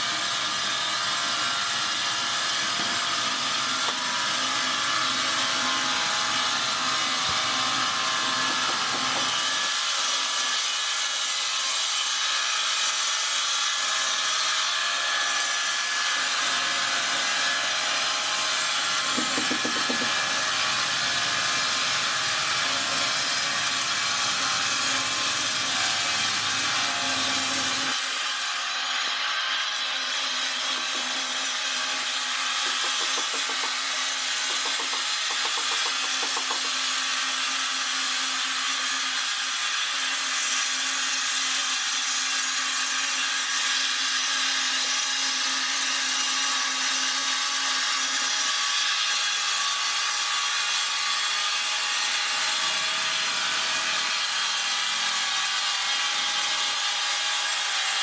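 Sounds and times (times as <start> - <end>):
power saw cutting wood: 0.0 - 58.0.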